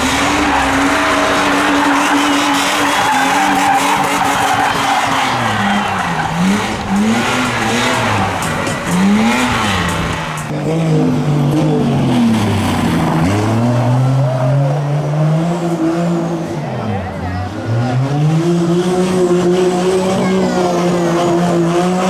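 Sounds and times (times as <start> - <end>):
rally car engine revving: 0.0 - 22.0
tyres squealing and skidding: 0.0 - 22.0.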